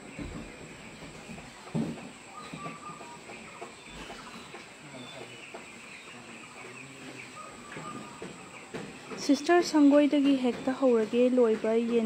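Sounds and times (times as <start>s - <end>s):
chickens calling: 0.0s - 12.0s.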